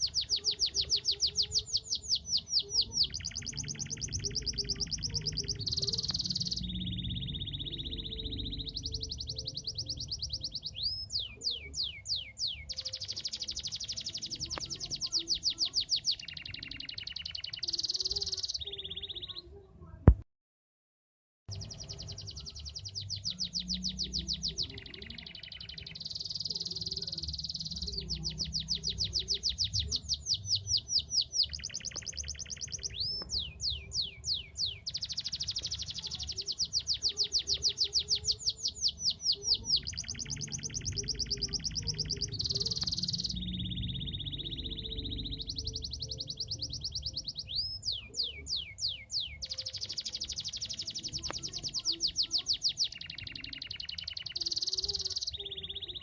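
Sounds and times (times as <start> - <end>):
canary singing trills: 0.0 - 20.0, 21.5 - 56.0.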